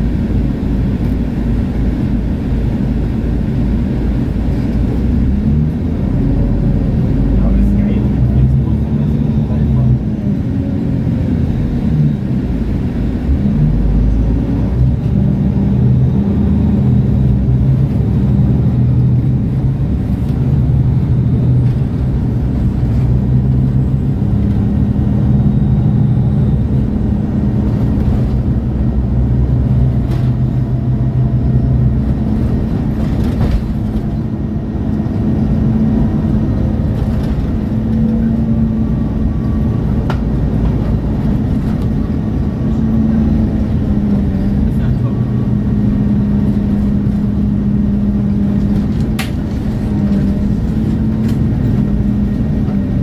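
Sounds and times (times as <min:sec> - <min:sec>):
bus diesel engine idling: 0:00.0 - 0:53.0.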